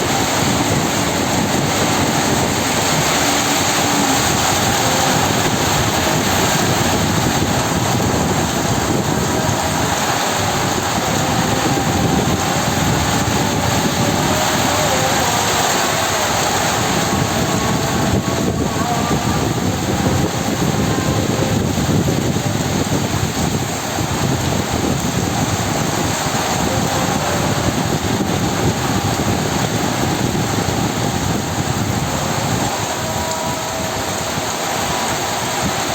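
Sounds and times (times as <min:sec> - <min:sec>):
gusty wind rumble: 0:00.0 - 0:35.9
heavy rain pouring: 0:00.0 - 0:35.9.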